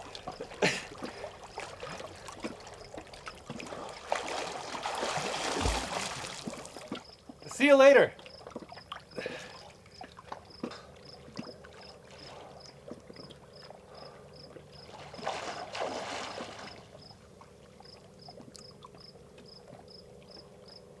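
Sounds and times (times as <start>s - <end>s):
water sloshing and lapping: 0.0s - 7.5s, 8.2s - 21.0s.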